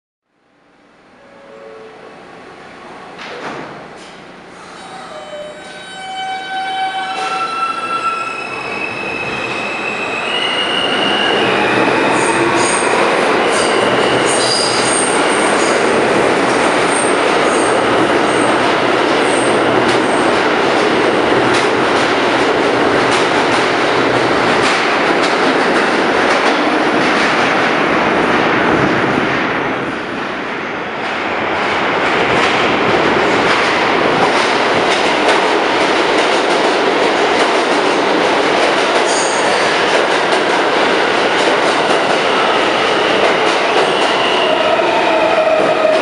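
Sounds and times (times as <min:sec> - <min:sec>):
subway train motors whining: 0:00.3 - 0:46.0.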